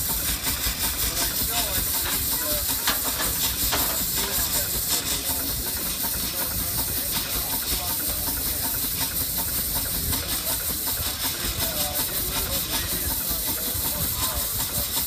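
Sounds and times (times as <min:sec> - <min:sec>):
steam engine hissing: 0:00.0 - 0:15.0.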